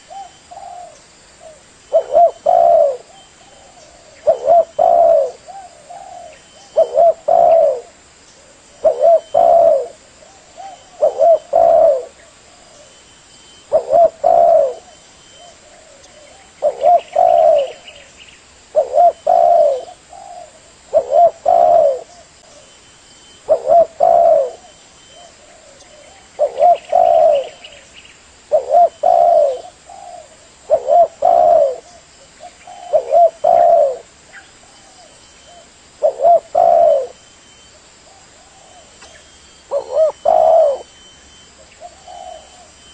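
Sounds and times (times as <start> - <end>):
dove cooing: 0.0 - 18.1, 18.7 - 27.9, 28.5 - 42.9.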